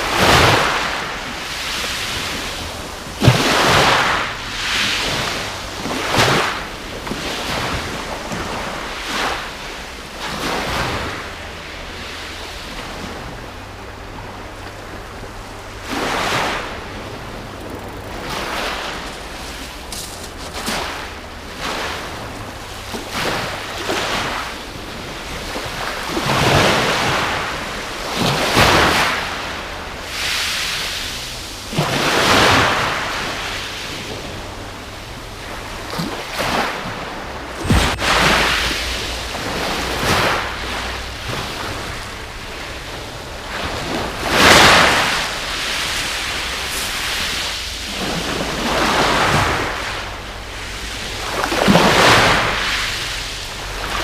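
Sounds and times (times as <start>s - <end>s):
sea waves washing onto beach: 0.0s - 54.0s.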